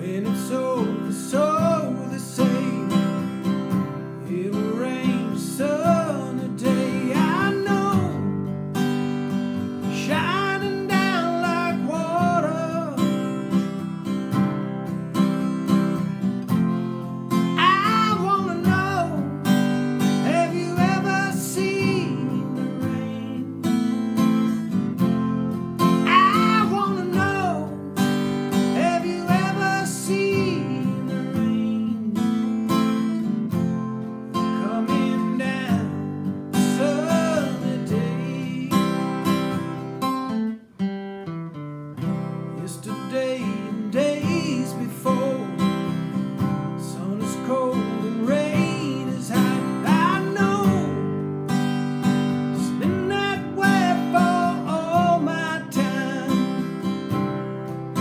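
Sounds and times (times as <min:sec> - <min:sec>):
man singing: 0:00.0 - 0:08.4, 0:09.8 - 0:13.6, 0:17.2 - 0:39.8, 0:42.5 - 0:51.2, 0:52.2 - 0:58.0
acoustic guitar strumming: 0:00.0 - 0:58.0.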